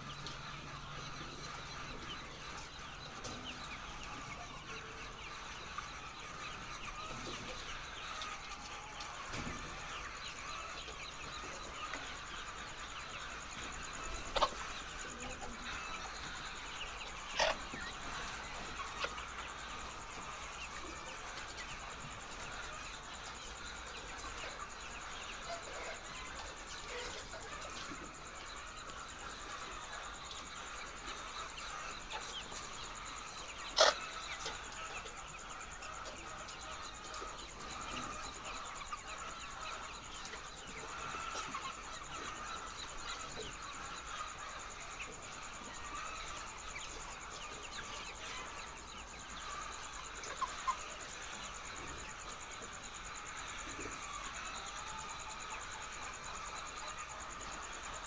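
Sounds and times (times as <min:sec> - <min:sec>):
hens clucking: 0:00.0 - 0:58.0.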